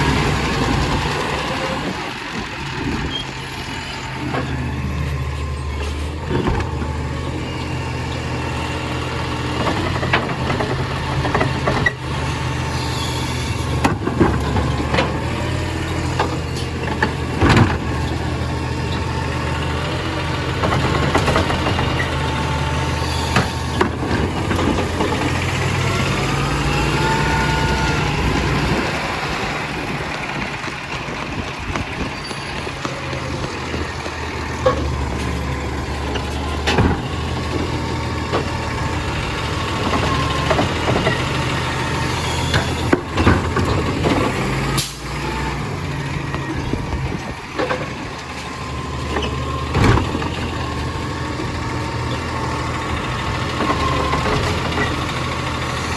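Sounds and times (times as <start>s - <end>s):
garbage truck engine running: 0.0s - 55.9s.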